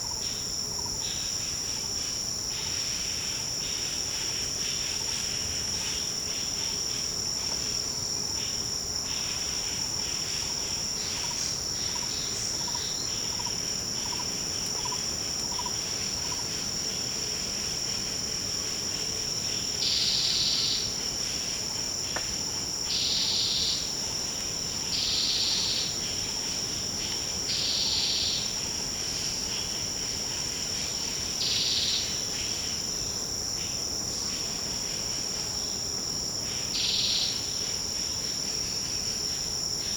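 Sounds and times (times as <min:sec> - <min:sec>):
insect chorus high-pitched drone: 0:00.0 - 0:39.9.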